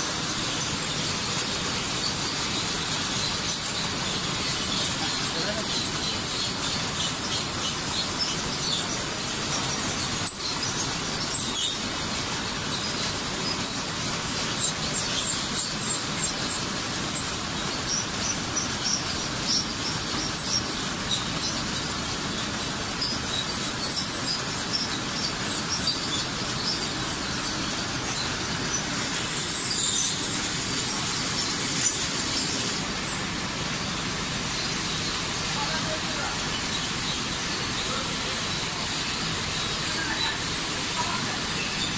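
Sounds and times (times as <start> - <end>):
oven and conveyor machinery running: 0.0 - 41.9.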